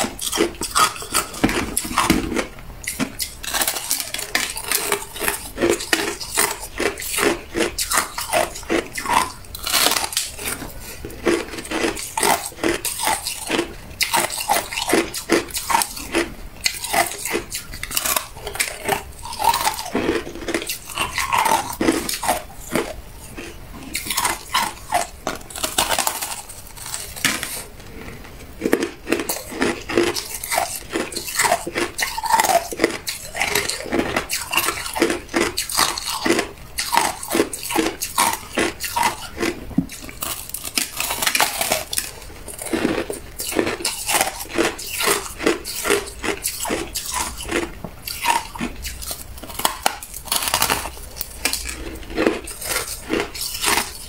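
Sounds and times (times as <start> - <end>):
person crunching ice: 0.0 - 54.0.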